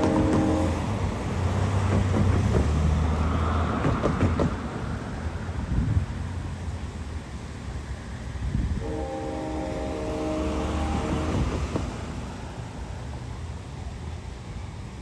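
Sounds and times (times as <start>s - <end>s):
diesel train rumble: 0.0s - 15.0s.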